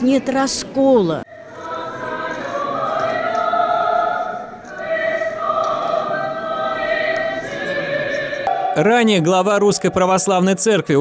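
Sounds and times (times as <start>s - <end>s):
church choir singing: 1.2s - 10.2s.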